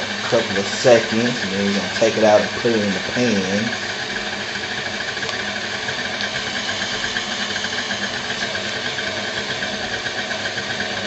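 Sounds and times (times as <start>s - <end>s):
stand mixer churning batter: 0.0s - 11.0s.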